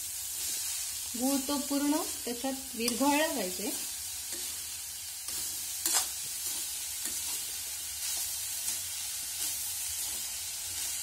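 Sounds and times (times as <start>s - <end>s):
food sizzling in a pan: 0.0s - 11.0s
spoon scraping a pan: 1.8s - 11.0s.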